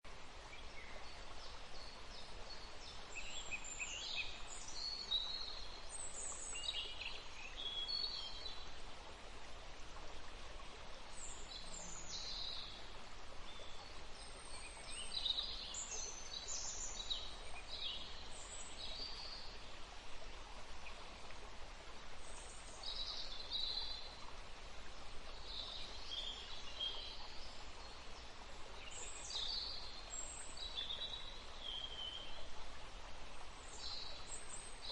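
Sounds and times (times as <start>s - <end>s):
background hiss: 0.1s - 34.9s.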